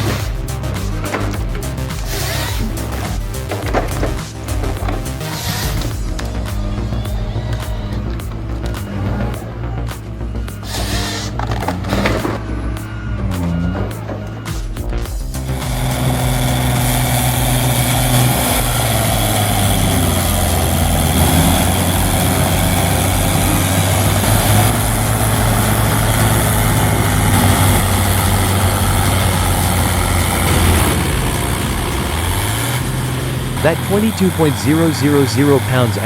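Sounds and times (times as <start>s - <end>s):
heavy machine engine humming: 0.0s - 36.0s.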